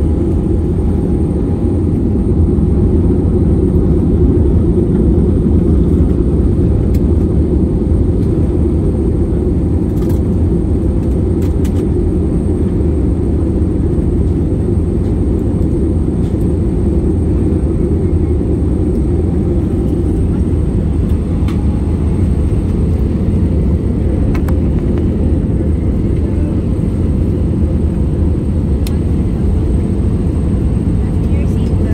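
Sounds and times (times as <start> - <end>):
airliner cabin rumble: 0.0 - 31.9.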